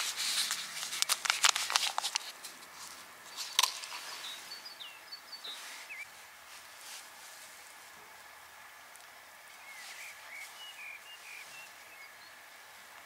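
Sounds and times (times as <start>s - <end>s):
crackling rustles: 0.0s - 13.0s
songbirds chirping: 2.1s - 13.0s.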